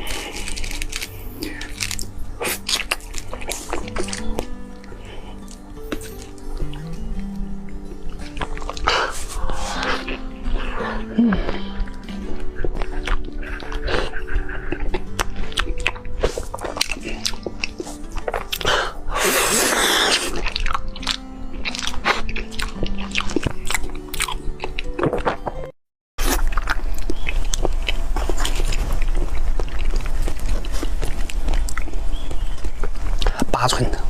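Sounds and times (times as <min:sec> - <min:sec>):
chewing and mouth smacks: 0:00.0 - 0:33.4
background music: 0:00.0 - 0:34.0.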